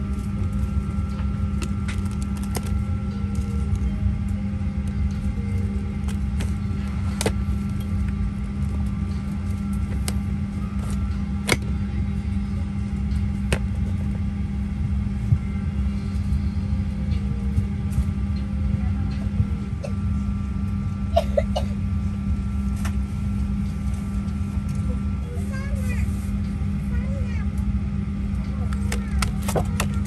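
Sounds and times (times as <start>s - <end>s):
airplane cabin low rumble: 0.0s - 30.0s.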